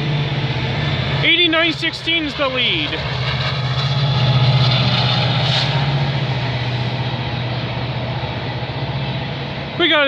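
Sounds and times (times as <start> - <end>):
diesel locomotive engine throbbing: 0.0 - 10.0
wheels rushing on rail: 0.0 - 10.0.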